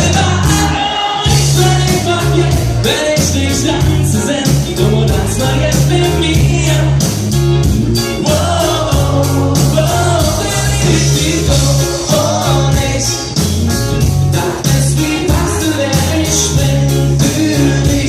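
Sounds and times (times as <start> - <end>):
person singing: 0.0 - 7.0, 8.0 - 13.4, 14.3 - 18.0
live rock band playing: 0.0 - 18.0.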